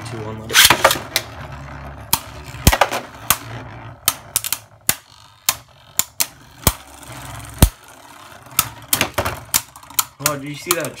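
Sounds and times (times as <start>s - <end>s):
low whir of spinning tops: 0.0s - 11.0s
spinning tops clacking together: 2.1s - 11.0s.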